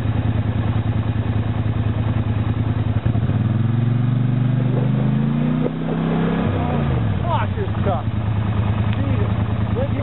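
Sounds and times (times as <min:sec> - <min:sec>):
quad bike engine revving: 0:00.0 - 0:10.0.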